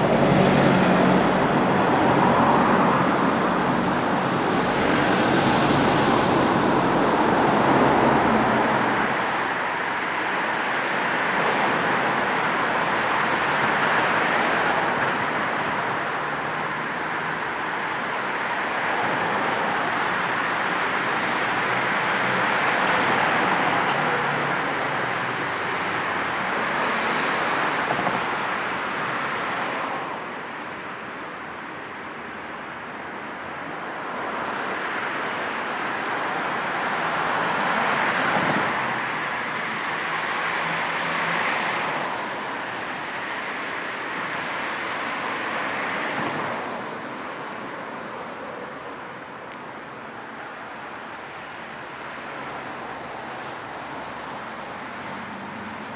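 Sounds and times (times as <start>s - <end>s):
vehicles passing: 0.0s - 55.9s.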